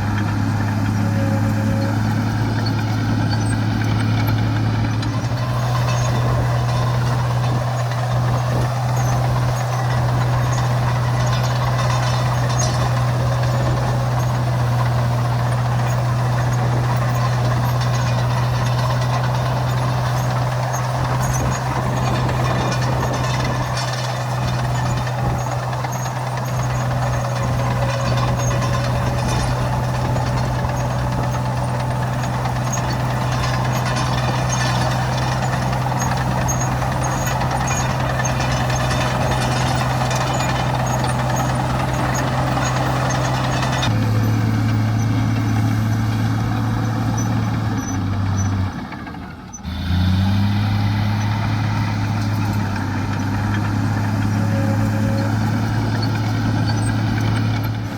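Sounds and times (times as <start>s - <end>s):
heavy diesel engine running: 0.0s - 57.9s.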